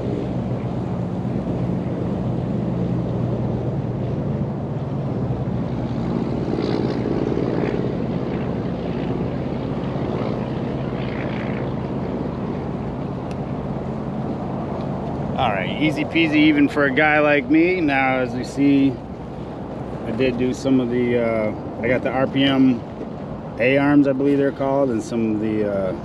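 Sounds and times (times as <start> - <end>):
steady engine drone: 0.0 - 26.0.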